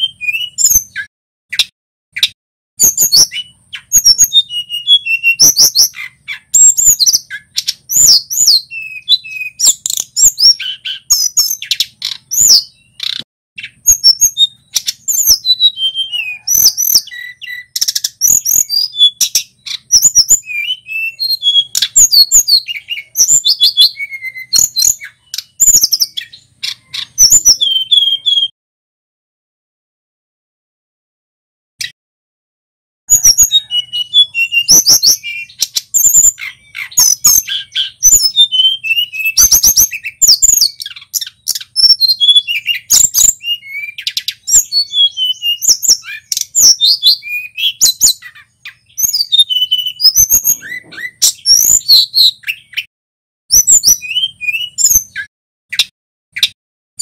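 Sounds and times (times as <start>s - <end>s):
bird singing with twittering phrases: 0.0s - 28.5s, 33.1s - 52.9s, 53.5s - 56.6s.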